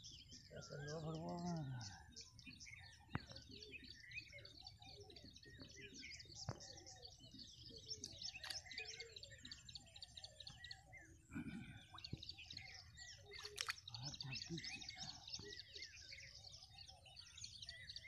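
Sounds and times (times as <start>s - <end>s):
small birds chirping chorus: 0.0s - 18.0s.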